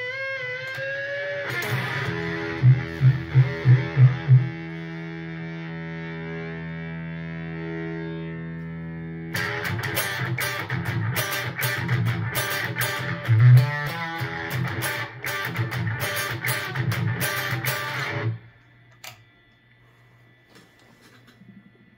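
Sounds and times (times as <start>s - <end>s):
fuzzed electric guitar chords: 0.0s - 19.3s.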